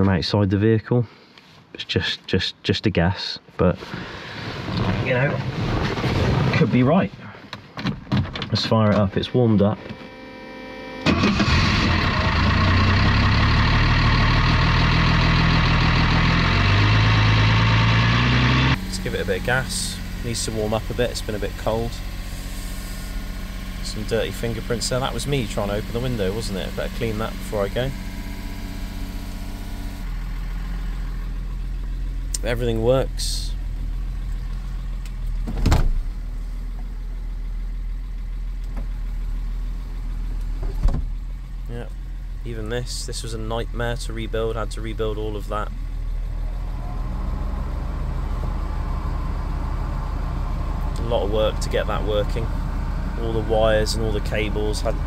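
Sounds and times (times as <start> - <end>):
car engine starting and idling: 8.6 - 55.0.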